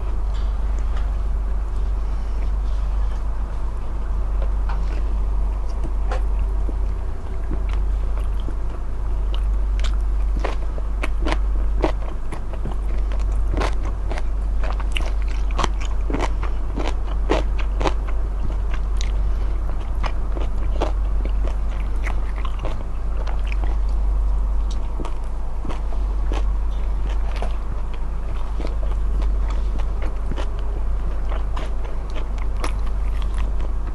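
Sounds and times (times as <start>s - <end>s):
crunchy chewing: 0.0s - 33.9s
steady low hum: 0.0s - 33.9s.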